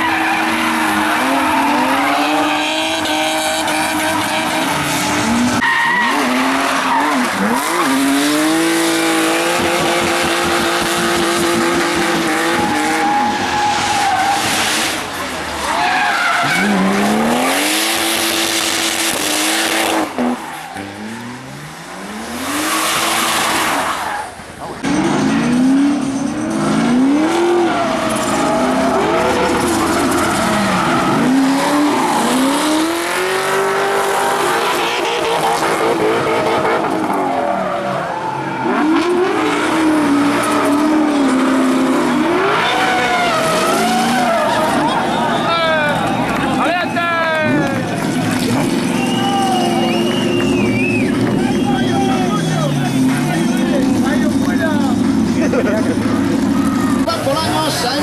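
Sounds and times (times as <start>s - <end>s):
tyres squealing: 0.0s - 18.1s, 22.4s - 35.6s, 40.1s - 58.0s
car engine at high revs: 0.0s - 58.0s.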